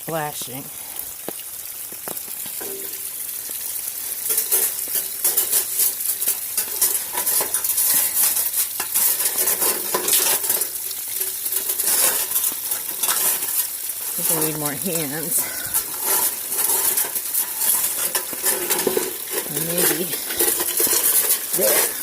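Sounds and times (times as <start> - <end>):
water trickling over rocks: 0.0 - 22.0.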